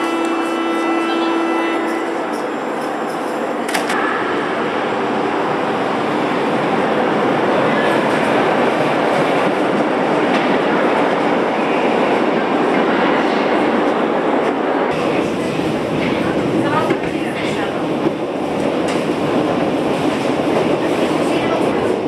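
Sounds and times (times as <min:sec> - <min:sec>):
subway train rumbling on rails: 0:00.0 - 0:22.0.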